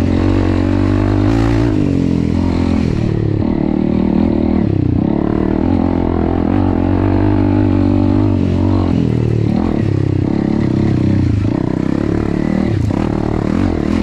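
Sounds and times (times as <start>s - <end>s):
motorcycle engine under load: 0.0s - 14.0s.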